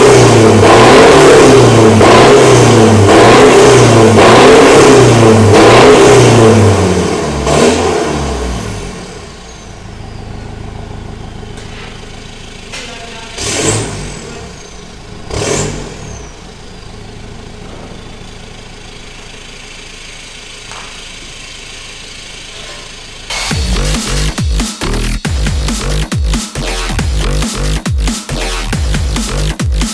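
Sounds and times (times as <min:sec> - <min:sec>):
engine revving and idling: 0:00.0 - 0:29.9.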